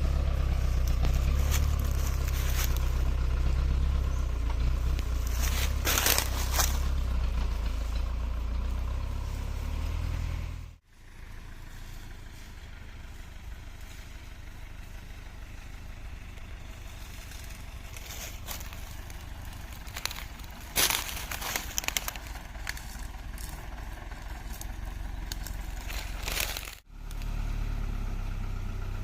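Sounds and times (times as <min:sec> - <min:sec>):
engine low rumble: 0:00.0 - 0:29.0.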